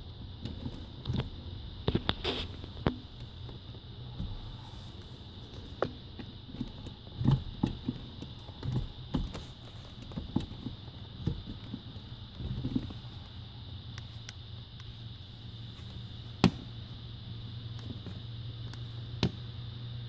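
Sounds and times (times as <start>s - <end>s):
steady low hum: 0.0s - 20.0s
brake pedal knocks and clicks: 0.3s - 15.0s, 15.7s - 16.9s, 17.7s - 19.5s.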